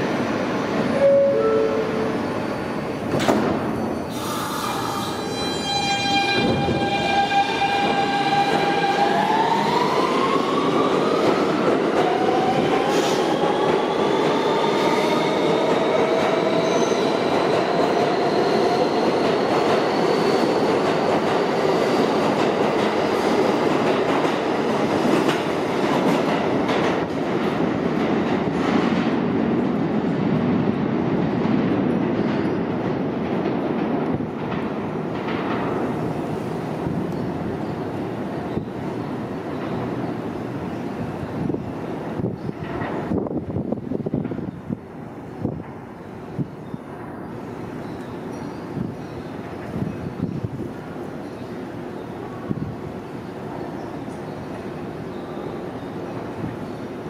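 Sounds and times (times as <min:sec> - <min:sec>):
subway train motors whining: 0:00.0 - 0:57.0.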